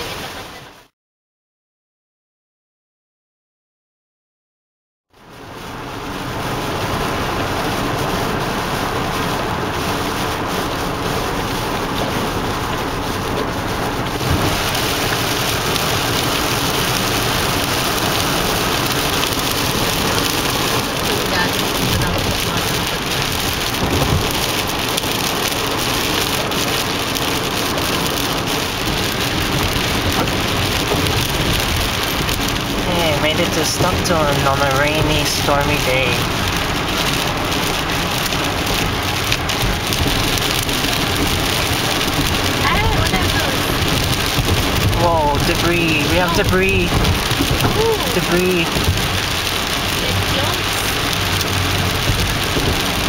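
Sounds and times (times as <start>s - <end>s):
heavy rain on a car: 0.0s - 0.9s, 5.1s - 53.0s
tyres hissing on wet road: 5.2s - 53.0s.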